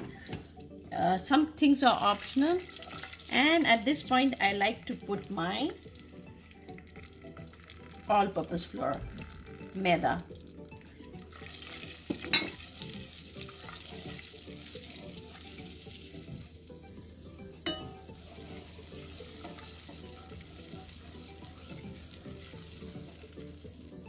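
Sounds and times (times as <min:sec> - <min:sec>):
ghee sizzling in pot: 0:01.8 - 0:24.0.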